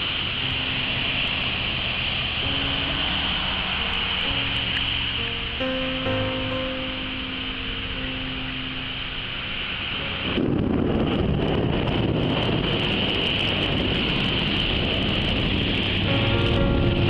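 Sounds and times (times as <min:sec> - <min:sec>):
rain hissing: 0:00.0 - 0:17.0
thunder rumbling: 0:00.0 - 0:17.0.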